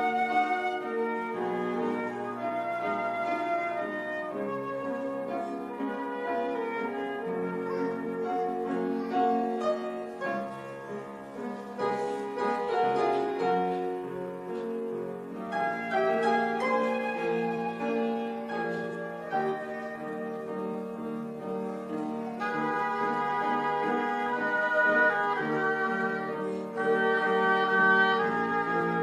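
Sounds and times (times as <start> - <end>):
flute melody: 0.0 - 29.0
keyboard accompaniment: 0.0 - 29.0.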